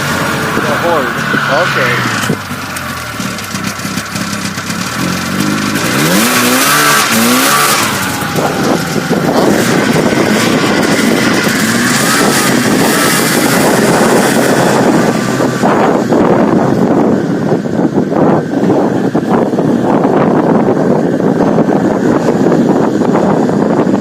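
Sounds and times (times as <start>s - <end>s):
snowmobile engine revving: 0.0s - 24.0s.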